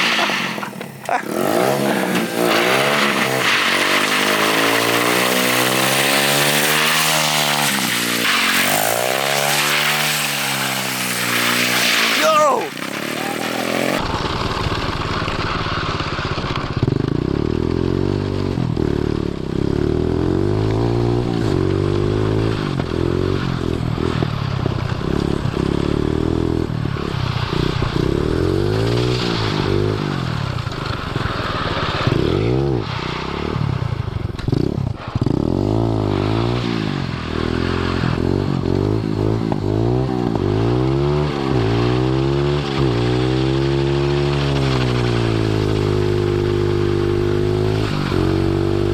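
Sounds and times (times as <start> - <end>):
pit bike engine revving: 0.0 - 48.9.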